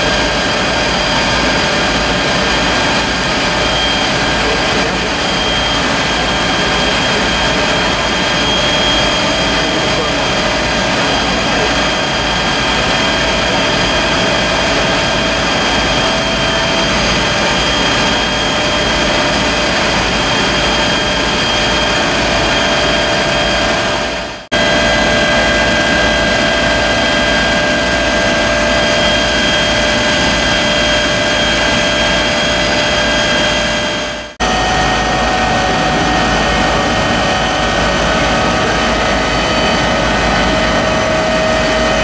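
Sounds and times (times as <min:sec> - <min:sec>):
fire truck engines and pumps: 0:00.0 - 0:42.0
steady whining tones: 0:00.0 - 0:42.0.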